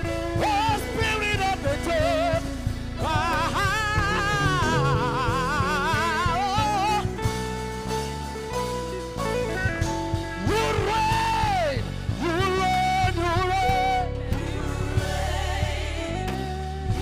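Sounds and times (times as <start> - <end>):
person singing with vibrato: 0.0 - 7.4, 9.2 - 17.0
guitar and keyboard: 0.0 - 17.0.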